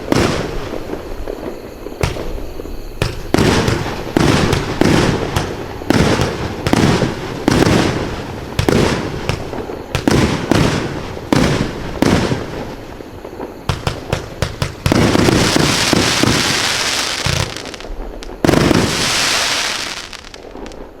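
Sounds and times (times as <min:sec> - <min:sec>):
firework shots thumping and bursting: 0:00.0 - 0:01.0, 0:02.0 - 0:12.6, 0:13.6 - 0:19.0
rushing crackling fireworks: 0:00.0 - 0:21.0
sharp firework cracks: 0:00.0 - 0:21.0.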